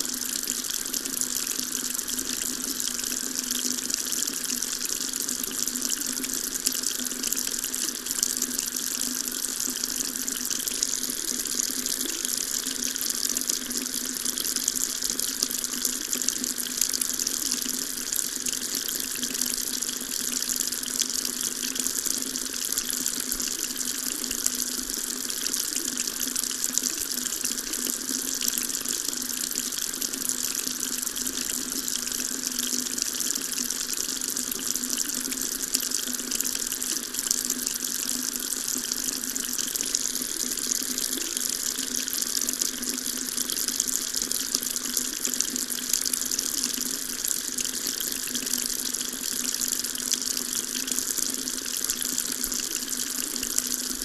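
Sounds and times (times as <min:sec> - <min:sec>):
water tap running: 0:00.0 - 0:54.0.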